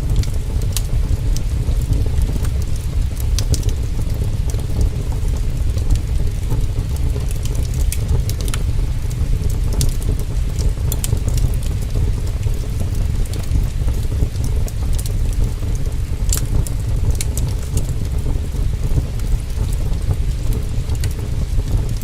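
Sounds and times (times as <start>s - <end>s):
deep constant rumble: 0.0s - 22.0s
heavy rain: 0.0s - 22.0s
wood fire crackling: 0.0s - 22.0s.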